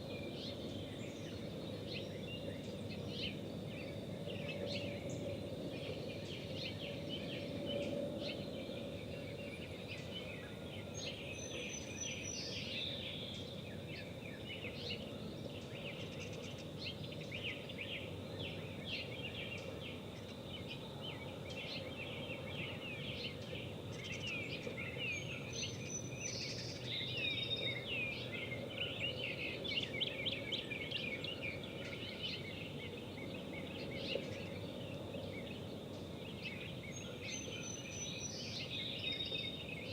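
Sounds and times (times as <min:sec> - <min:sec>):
low outdoor noise: 0:00.0 - 0:39.9
birds chirping and singing: 0:00.1 - 0:39.9.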